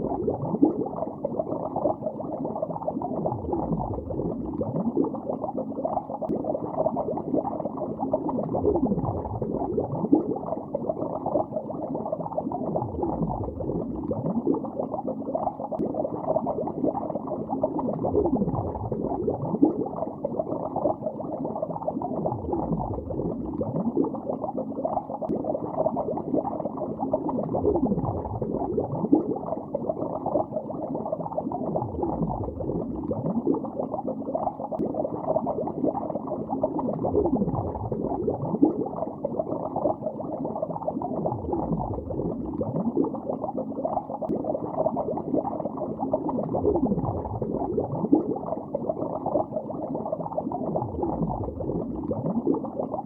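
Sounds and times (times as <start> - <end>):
underwater bubbling: 0.0 - 53.0.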